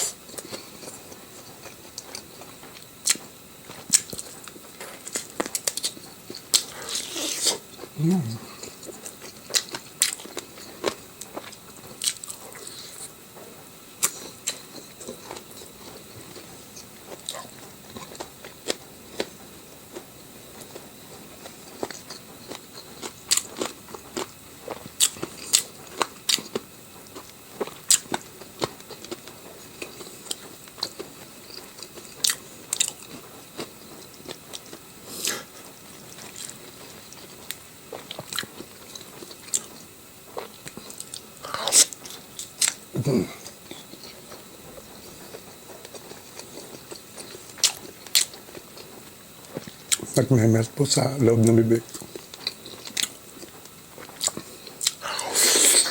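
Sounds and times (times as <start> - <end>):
person crunching and chewing: 0.0 - 13.2, 14.0 - 50.3, 50.9 - 55.9.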